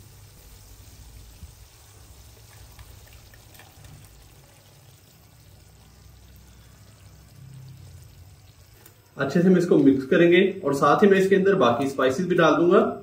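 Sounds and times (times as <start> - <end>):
oil sizzling faintly: 0.0 - 13.0.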